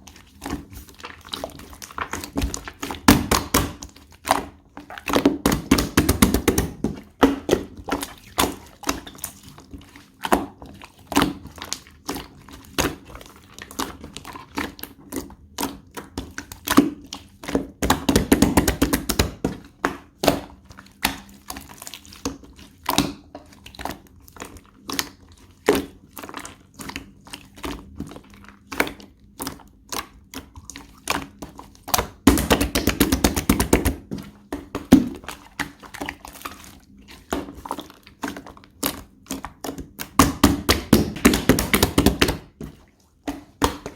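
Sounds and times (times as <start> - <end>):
slime squishing with clicks and pops: 0.3 - 43.9.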